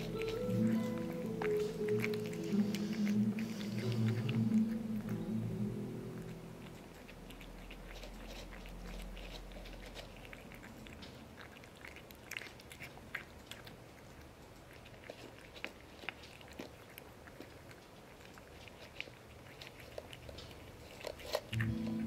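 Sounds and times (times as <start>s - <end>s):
cat chewing and licking: 0.0s - 22.0s.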